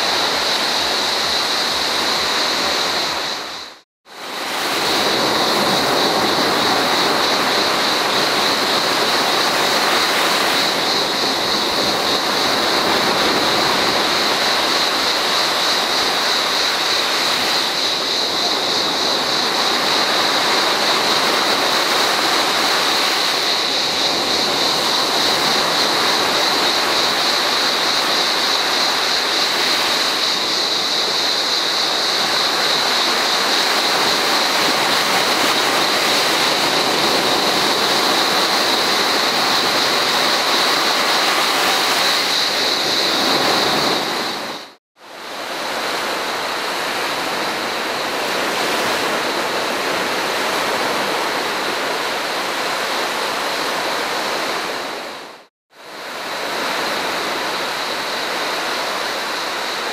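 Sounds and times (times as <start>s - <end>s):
cicadas buzzing: 0.0s - 55.2s, 56.0s - 59.9s
small waves breaking on sandy beach: 0.0s - 59.9s.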